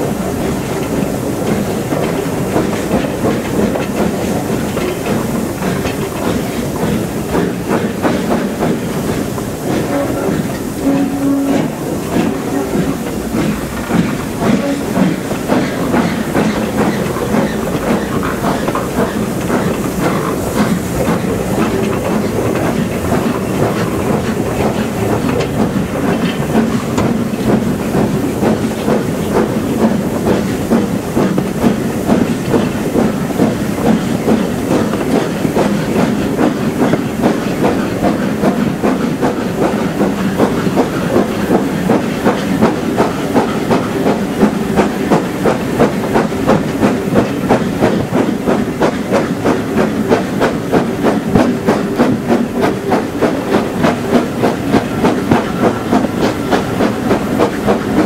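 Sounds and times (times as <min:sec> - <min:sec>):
carriage wheels clacking on rails: 0:00.0 - 0:58.0
hiss of steam: 0:00.0 - 0:58.0
steam locomotive exhaust beats: 0:00.0 - 0:58.0.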